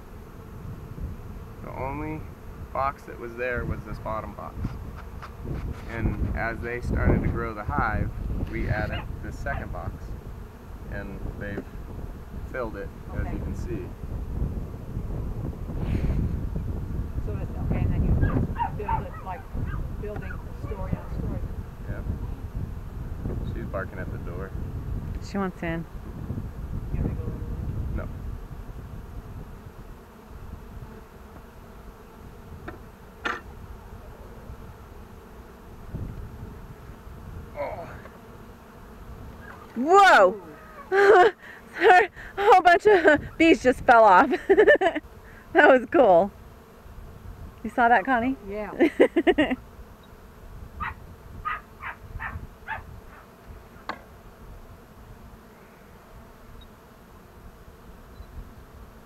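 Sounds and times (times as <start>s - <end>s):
honeybees buzzing: 0.0s - 59.0s.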